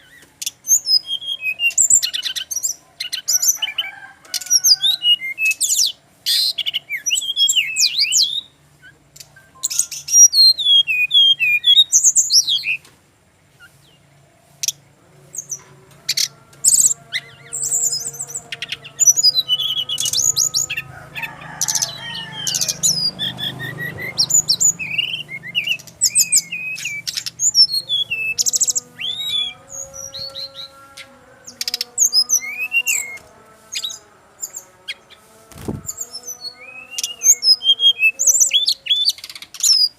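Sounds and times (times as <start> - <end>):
bird singing whistled trills: 0.0 - 3.8, 4.4 - 12.8, 14.6 - 20.8, 21.5 - 33.2, 33.8 - 39.9.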